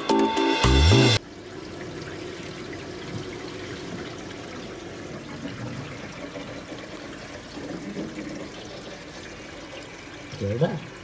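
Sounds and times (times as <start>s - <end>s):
water rushing through drain pipes: 1.2s - 11.0s.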